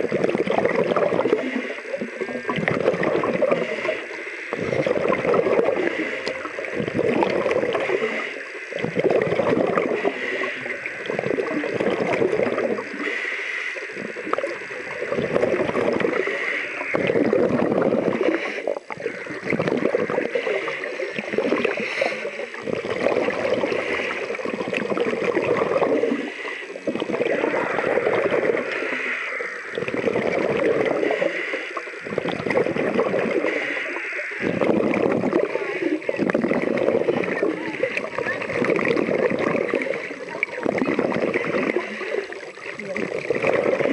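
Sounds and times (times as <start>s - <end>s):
underwater scuba breathing bubbles: 0.0s - 43.9s.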